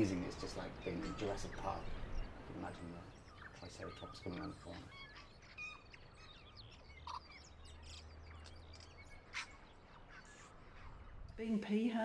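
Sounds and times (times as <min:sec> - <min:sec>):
faint birds chirping and whistling: 0:00.0 - 0:11.8.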